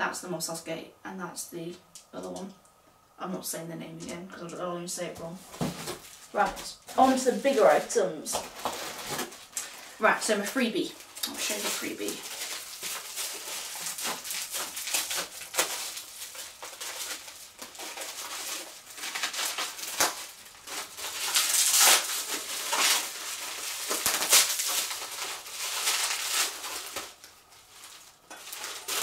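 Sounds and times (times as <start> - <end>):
bubble wrap crinkling: 5.4 - 29.0.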